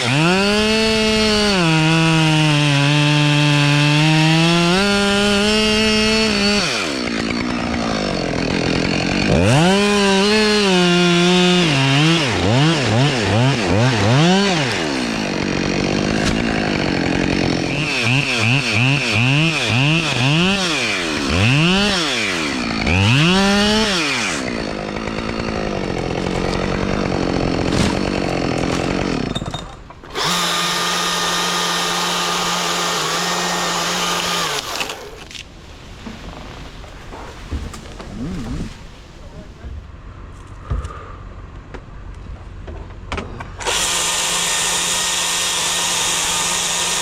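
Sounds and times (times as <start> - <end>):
chainsaw revving and cutting wood: 0.0 - 35.4, 43.5 - 47.0.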